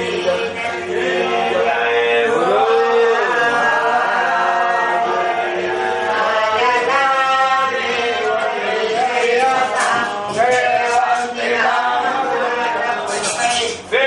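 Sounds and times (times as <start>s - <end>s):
voices chanting a hymn: 0.0s - 14.0s.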